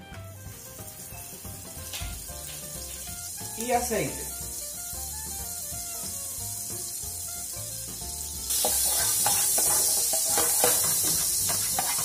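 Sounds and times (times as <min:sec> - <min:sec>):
butter sizzling in frying pan: 0:00.0 - 0:12.0.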